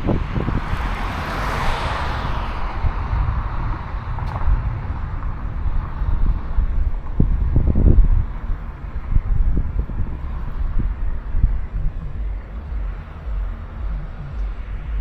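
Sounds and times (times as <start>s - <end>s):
vehicle tyre hiss passing: 0.0s - 14.9s
wind buffeting microphone: 0.0s - 15.0s.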